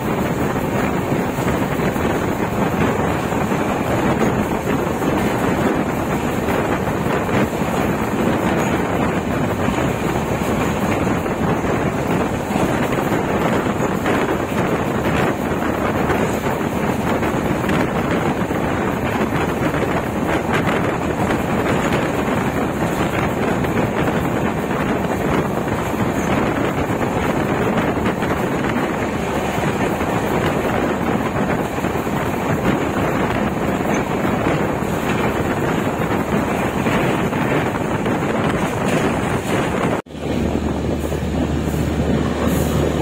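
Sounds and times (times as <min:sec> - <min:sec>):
wind rushing over microphone: 0:00.0 - 0:43.0.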